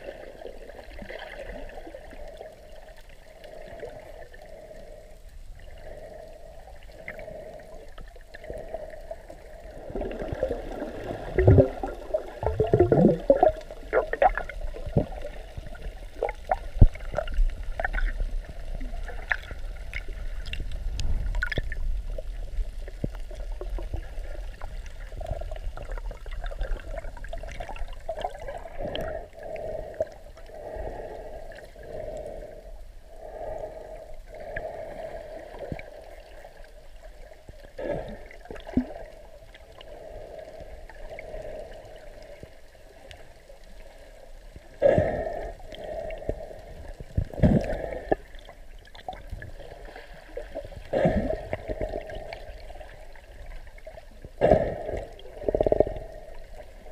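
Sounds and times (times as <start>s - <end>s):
muffled underwater rushing water: 0.0s - 56.9s.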